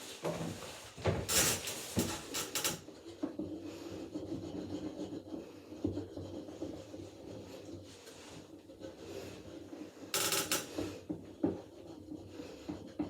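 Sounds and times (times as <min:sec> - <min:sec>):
scrubbing and scraping on fan: 0:00.0 - 0:13.0.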